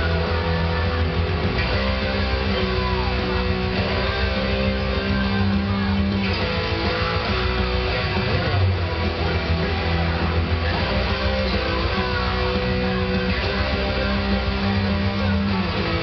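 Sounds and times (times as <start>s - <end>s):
electric guitar heavy metal: 0.0s - 16.0s
sustained bass notes: 0.0s - 16.0s.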